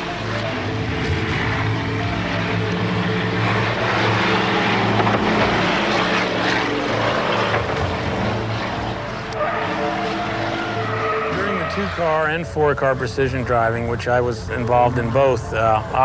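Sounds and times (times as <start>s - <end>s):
car engines droning: 0.0s - 16.0s
tyre and road noise: 0.0s - 16.0s.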